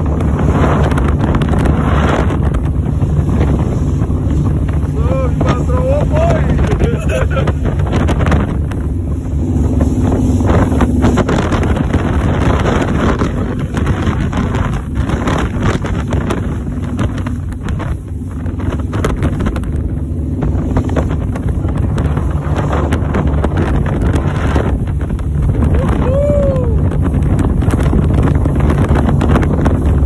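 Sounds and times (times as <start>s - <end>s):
speedboat engine running: 0.0s - 30.0s
wind buffeting microphone: 0.0s - 30.0s.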